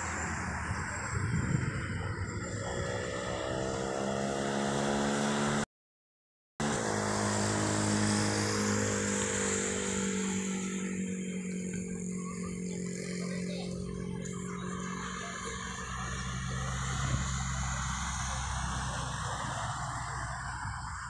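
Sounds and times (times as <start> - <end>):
vehicle engine running: 0.0 - 5.5, 6.6 - 21.0.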